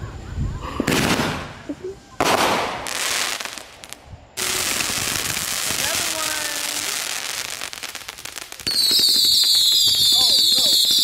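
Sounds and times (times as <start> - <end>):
fireworks hissing and crackling: 0.5 - 11.0.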